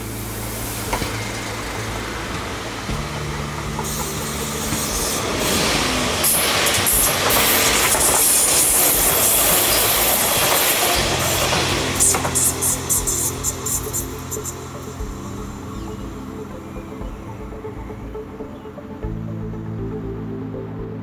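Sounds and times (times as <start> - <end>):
train running on tracks: 0.0 - 19.9.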